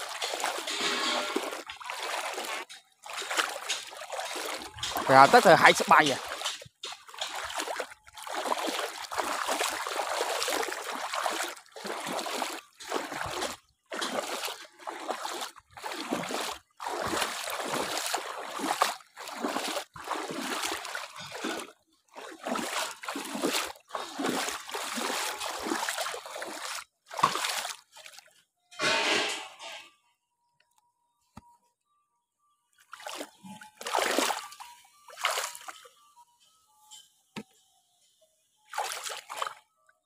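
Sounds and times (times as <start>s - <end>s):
footsteps sloshing through water: 0.0s - 28.4s, 32.8s - 35.9s, 38.7s - 39.6s.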